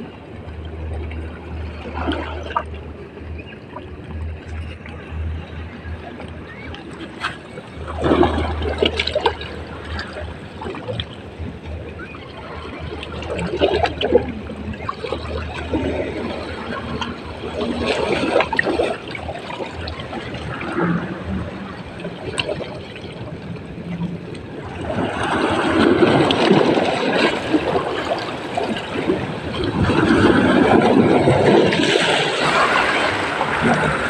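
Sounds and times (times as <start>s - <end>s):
water splashing along shore: 0.0s - 34.0s.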